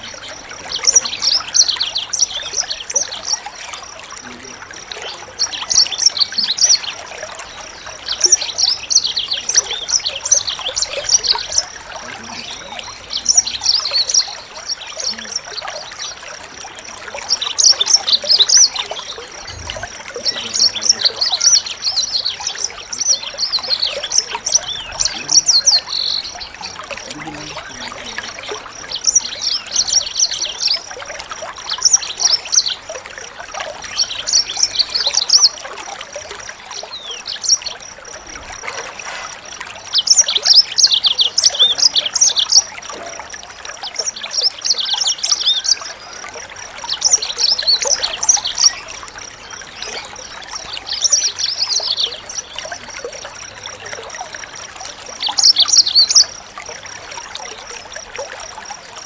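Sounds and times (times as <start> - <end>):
songbirds chirping and trilling: 0.0 - 59.0
thin constant high tone: 0.0 - 59.0.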